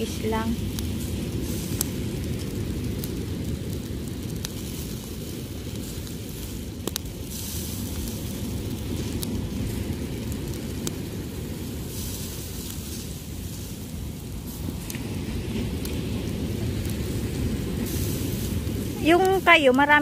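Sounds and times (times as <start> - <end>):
low rumble: 0.0 - 20.0
meat sizzling on a grill: 0.0 - 20.0.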